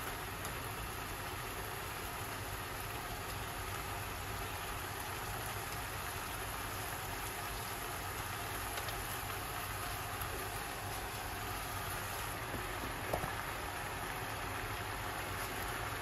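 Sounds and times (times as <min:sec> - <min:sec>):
meat sizzling in a frying pan: 0:00.0 - 0:16.0.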